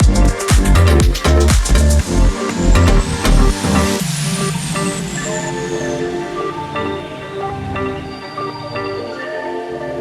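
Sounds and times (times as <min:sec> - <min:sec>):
electronic music with pounding beat: 0:00.0 - 0:10.0.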